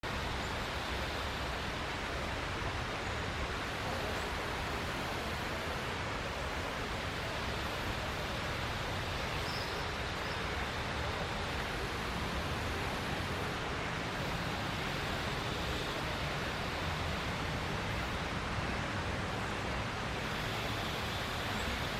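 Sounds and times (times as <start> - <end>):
steady rushing noise: 0.0 - 21.9.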